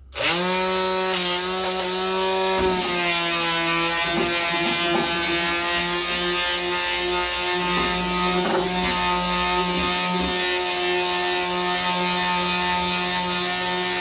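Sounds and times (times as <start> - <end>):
electric sander motor humming: 0.2 - 14.0.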